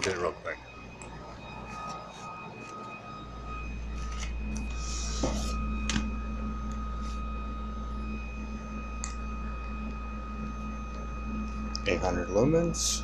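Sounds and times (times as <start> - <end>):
faint high-pitched whine: 0.0 - 13.0
low hum: 0.0 - 13.0.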